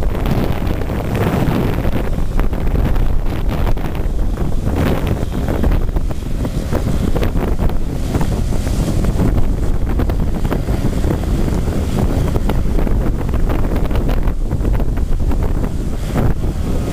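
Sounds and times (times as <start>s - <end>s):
dredge pump running: 0.0s - 16.9s
slurry jet splashing into sea: 0.0s - 16.9s
wind buffeting microphone: 0.0s - 16.9s.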